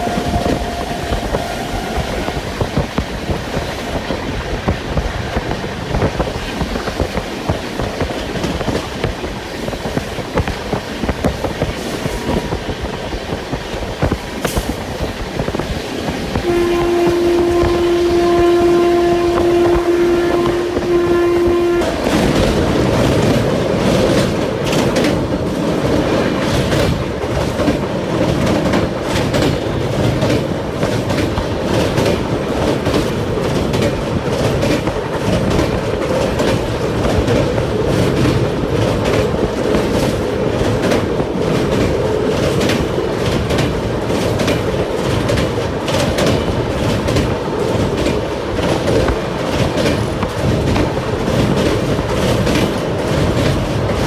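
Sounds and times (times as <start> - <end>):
train coach rumbling: 0.0 - 54.0
wheels clicking over rail joints: 0.0 - 54.0.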